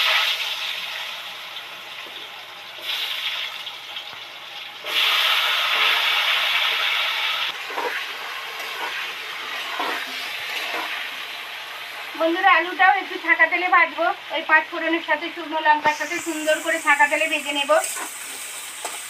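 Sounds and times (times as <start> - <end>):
potatoes sizzling in hot oil: 0.0 - 19.0.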